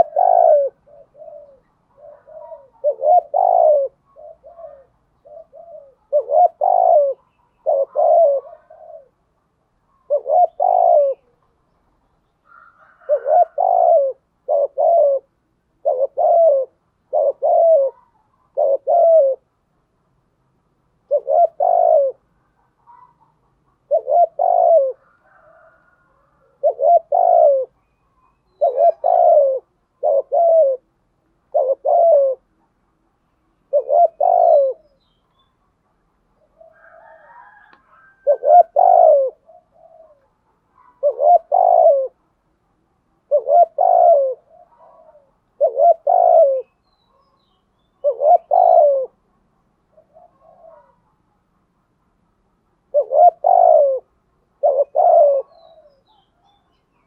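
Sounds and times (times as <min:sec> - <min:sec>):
dove cooing: 0:00.0 - 0:11.6, 0:12.4 - 0:19.6, 0:21.0 - 0:51.6, 0:52.8 - 0:57.0.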